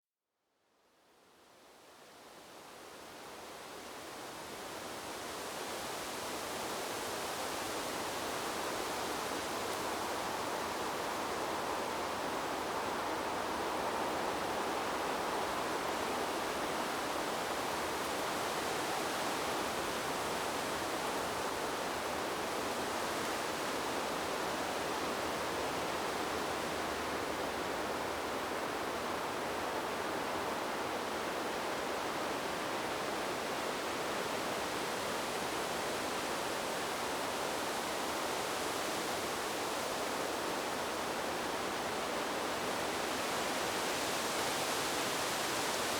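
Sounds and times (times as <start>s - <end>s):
wind rustling leaves: 1.9s - 45.9s.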